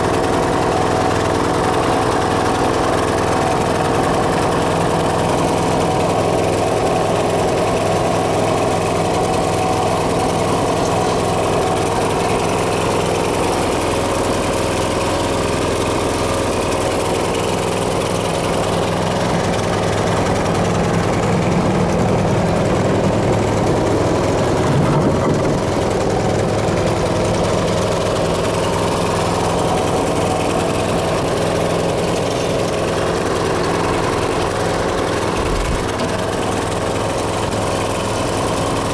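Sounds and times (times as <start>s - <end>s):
small engine idling: 0.0s - 38.9s.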